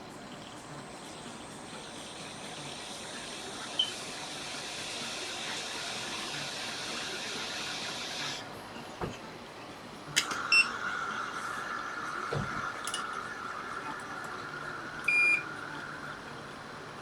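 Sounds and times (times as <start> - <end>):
hot air station hissing: 0.7 - 8.6, 10.2 - 17.0.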